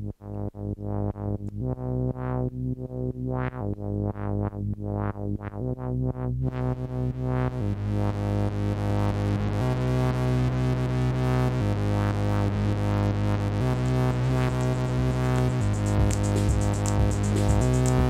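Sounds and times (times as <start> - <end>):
synthesizer repeating low note: 0.0 - 18.0.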